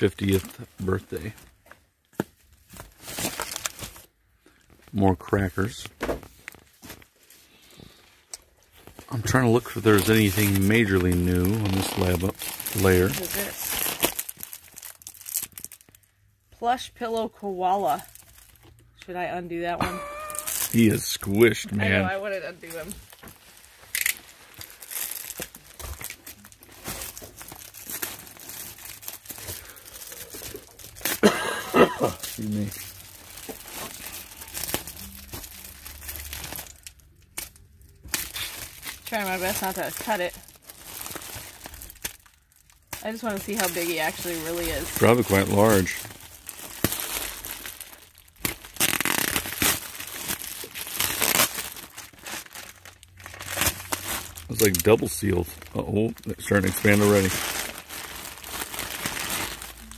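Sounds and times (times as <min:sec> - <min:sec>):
plastic packaging crinkling: 0:00.0 - 0:01.6, 0:02.3 - 0:07.4, 0:08.7 - 0:16.1, 0:17.8 - 0:18.8, 0:20.1 - 0:59.9.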